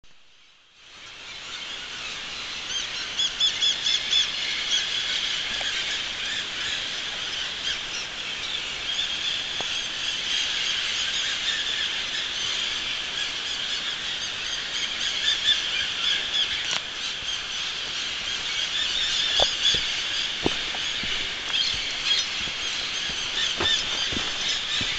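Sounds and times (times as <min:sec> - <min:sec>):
many birds chirping: 0:01.0 - 0:24.9.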